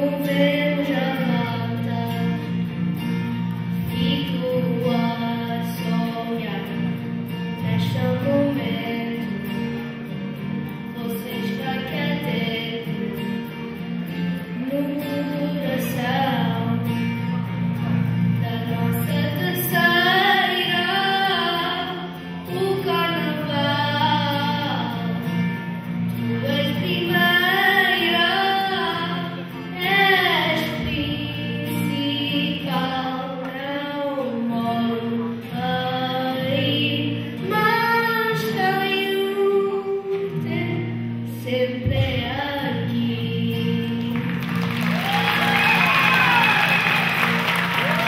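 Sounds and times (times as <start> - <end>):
woman singing: 0.0 - 47.0.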